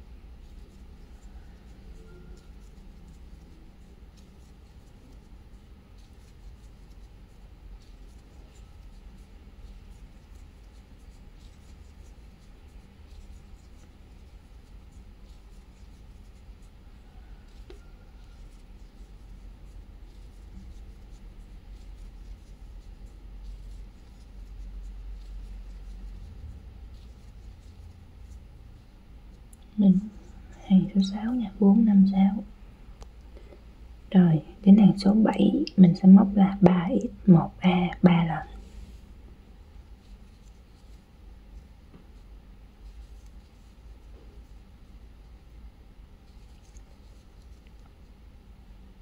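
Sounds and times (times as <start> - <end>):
crochet hook scratching yarn: 0.0 - 32.4, 34.1 - 49.0
low steady hum: 0.0 - 49.0.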